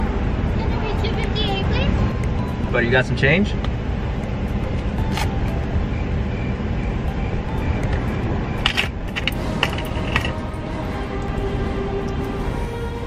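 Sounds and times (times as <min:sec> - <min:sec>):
van engine idling: 0:00.0 - 0:13.0.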